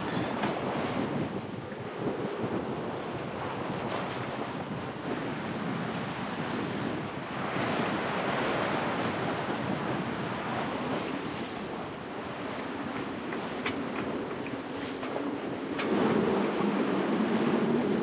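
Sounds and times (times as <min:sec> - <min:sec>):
water splashing along boat hull: 0:00.0 - 0:18.0
wind buffeting microphone: 0:00.0 - 0:18.0.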